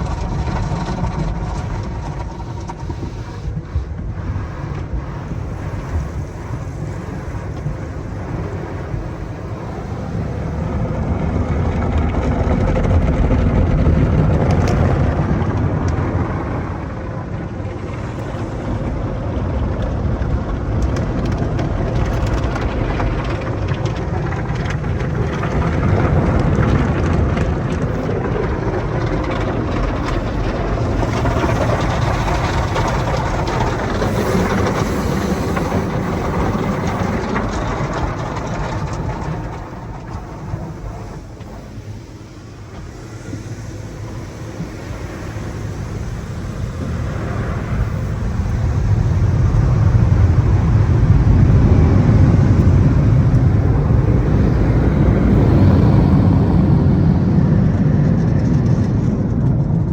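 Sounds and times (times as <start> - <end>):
car wash machinery and water rushing: 0.0 - 59.9.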